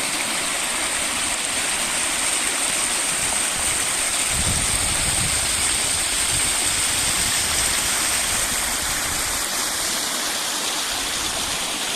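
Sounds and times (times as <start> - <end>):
river water rushing over rocks: 0.0 - 11.9.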